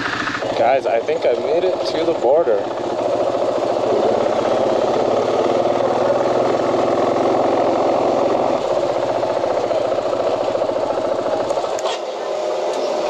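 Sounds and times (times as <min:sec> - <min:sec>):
dirt bike engine at low speed: 0:00.0 - 0:13.0.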